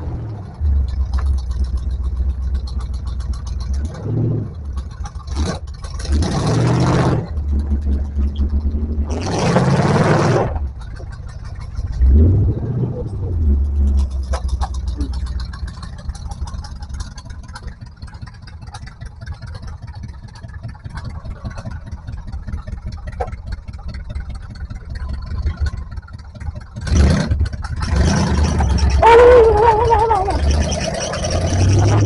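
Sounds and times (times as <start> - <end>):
engine running at low speed: 0.0 - 32.0.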